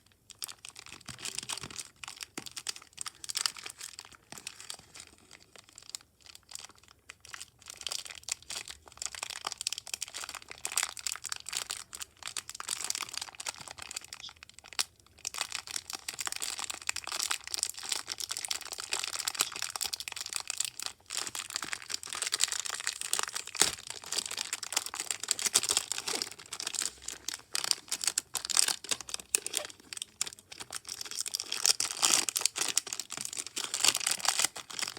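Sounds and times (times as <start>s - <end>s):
slime crackling and popping: 5.4s - 34.9s.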